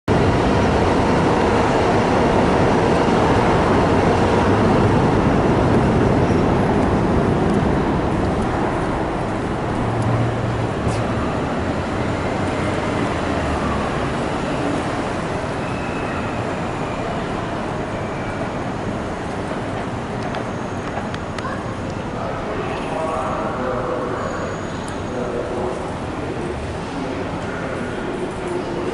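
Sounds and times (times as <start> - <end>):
train rumbling on rails: 0.1 - 28.9.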